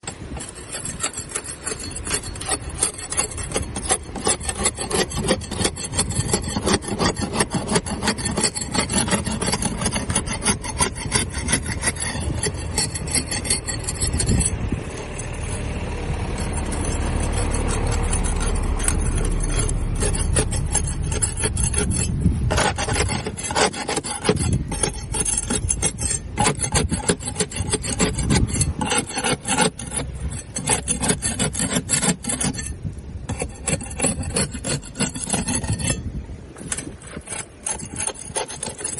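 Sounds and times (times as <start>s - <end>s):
scraping barnacles off hull: 0.0s - 38.9s.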